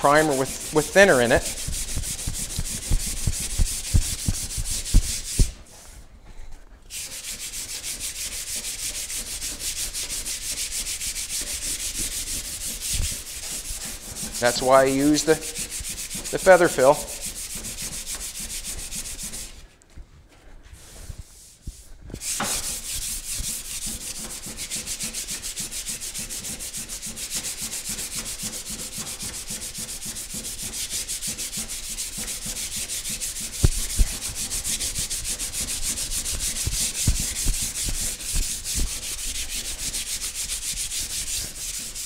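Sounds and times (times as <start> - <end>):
sandpaper rubbing on car panel: 0.0 - 5.6, 6.9 - 19.6, 22.2 - 42.0.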